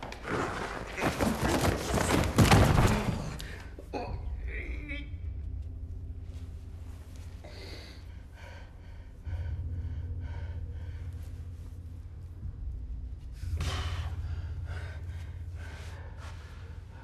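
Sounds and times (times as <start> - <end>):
steady low rumble: 3.2 - 17.0.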